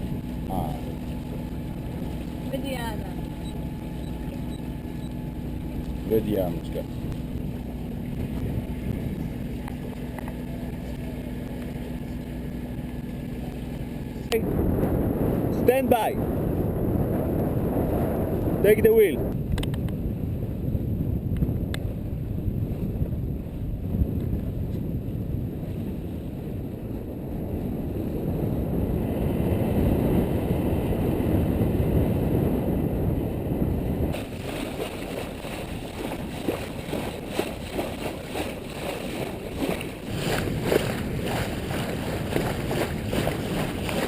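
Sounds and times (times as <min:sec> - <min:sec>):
wind and water wash: 0:00.0 - 0:44.0
wind buffeting microphone: 0:00.0 - 0:44.0.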